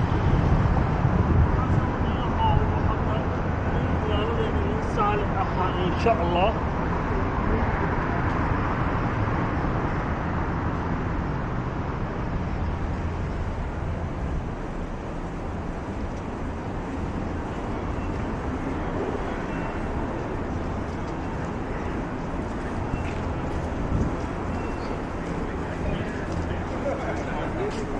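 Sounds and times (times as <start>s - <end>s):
city traffic: 0.0s - 27.9s.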